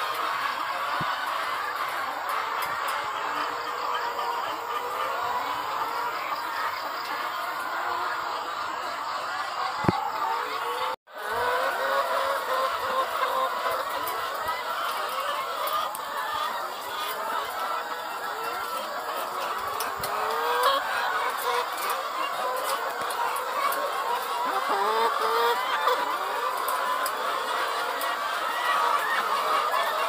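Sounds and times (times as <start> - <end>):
hens clucking: 0.0 - 30.0.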